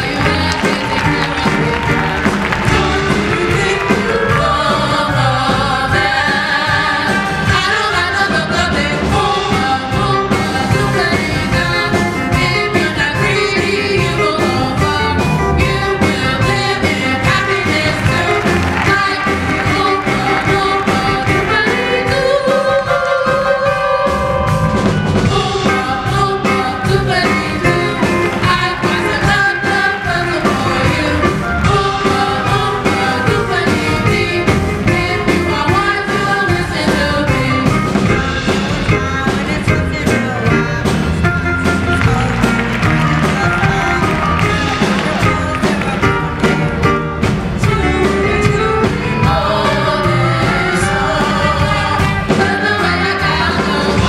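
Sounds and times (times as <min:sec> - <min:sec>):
song with singing and beat: 0:00.0 - 0:54.0.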